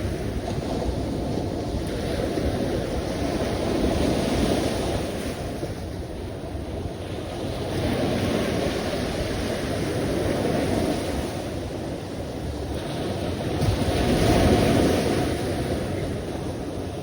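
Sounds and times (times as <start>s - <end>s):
sea waves breaking: 0.0s - 17.0s.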